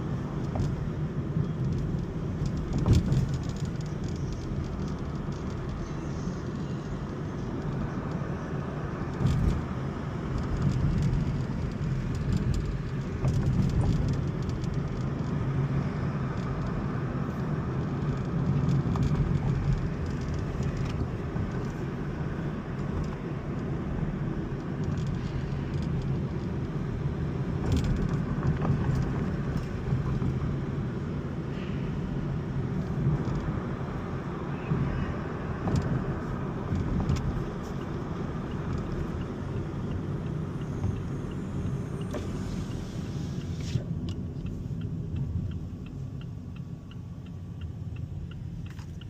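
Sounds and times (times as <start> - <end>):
car road and engine noise: 0.0 - 49.0.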